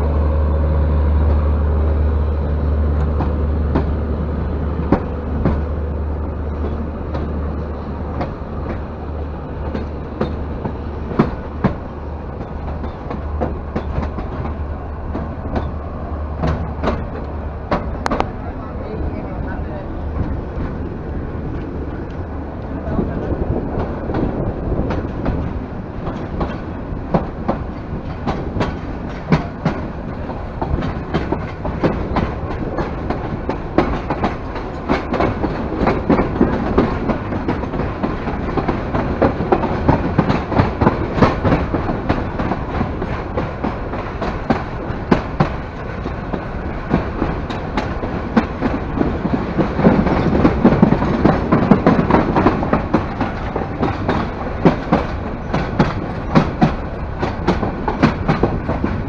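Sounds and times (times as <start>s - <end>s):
train wheels clattering over rail joints: 4.7s - 5.8s, 6.4s - 18.4s, 22.9s - 59.0s.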